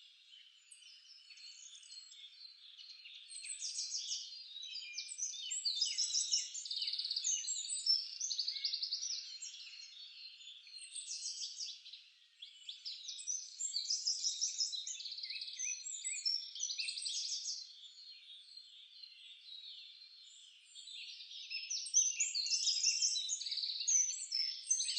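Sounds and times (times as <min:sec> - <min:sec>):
songbirds chirping and trilling: 0:00.0 - 0:24.9.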